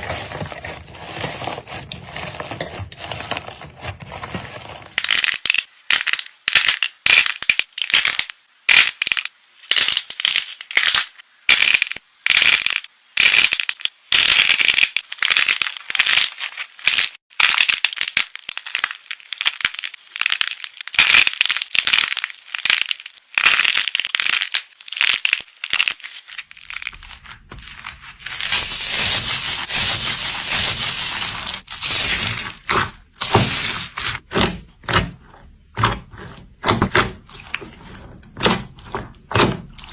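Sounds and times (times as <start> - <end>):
slime squelching and crackling: 0.0 - 39.9.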